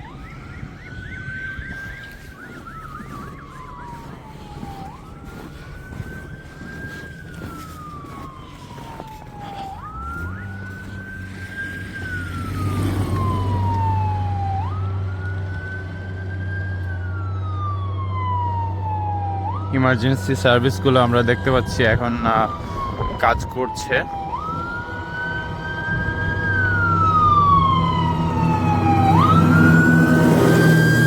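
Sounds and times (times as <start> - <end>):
siren wailing: 0.0 - 31.0
low engine hum: 2.6 - 21.8, 24.0 - 31.0.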